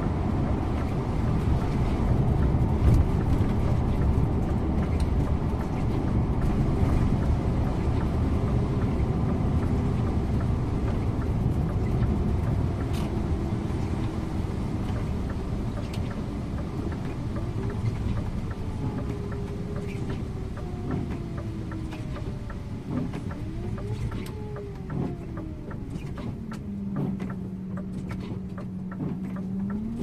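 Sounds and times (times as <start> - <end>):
coach engine and road drone: 0.0 - 30.0.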